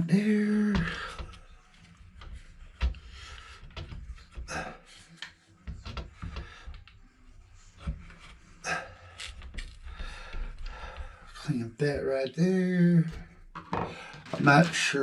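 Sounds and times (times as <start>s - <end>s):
knocks clicks and rubbing: 0.4s - 11.5s, 12.9s - 15.0s.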